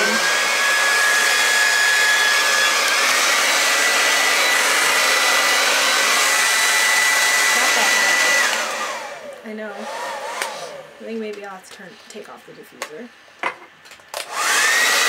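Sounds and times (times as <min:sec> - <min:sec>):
hair dryer running: 0:00.0 - 0:11.6, 0:14.2 - 0:15.0.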